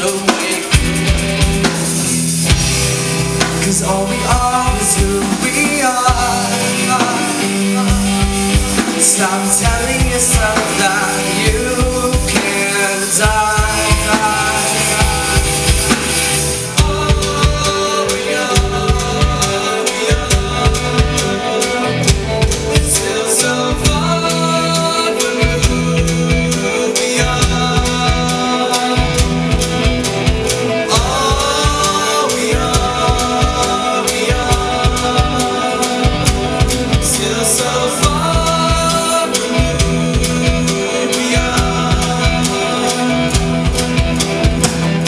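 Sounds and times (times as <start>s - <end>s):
man singing: 0.0s - 2.0s, 3.3s - 45.0s
drum kit: 0.0s - 45.0s
electric bass: 0.0s - 45.0s
electric guitar: 0.0s - 45.0s.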